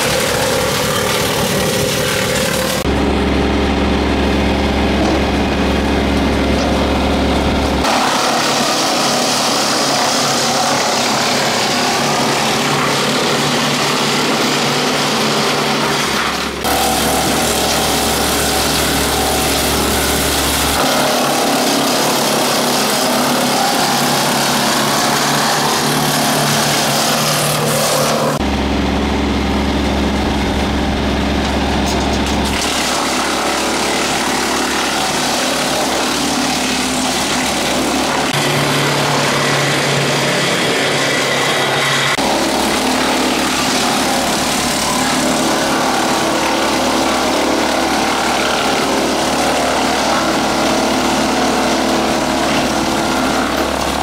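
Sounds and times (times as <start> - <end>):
tractor engine running: 0.0 - 54.0
wood chipper running: 0.0 - 54.0.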